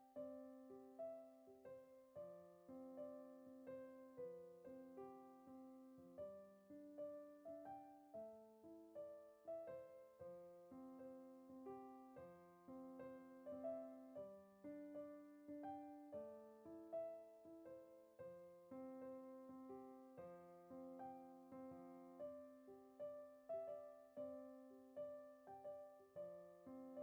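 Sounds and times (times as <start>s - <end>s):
soft piano music: 0.0s - 27.0s.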